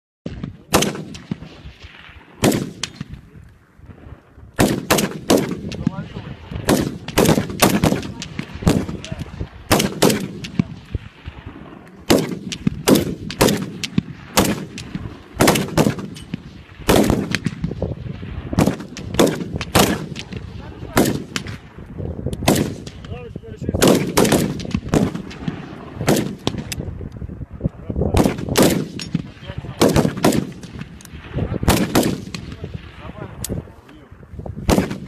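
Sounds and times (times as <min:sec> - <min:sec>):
gunshots with ringing echo: 0:00.3 - 0:03.2, 0:04.6 - 0:21.8, 0:22.4 - 0:23.2, 0:23.8 - 0:26.7, 0:28.2 - 0:33.4, 0:34.6 - 0:35.0.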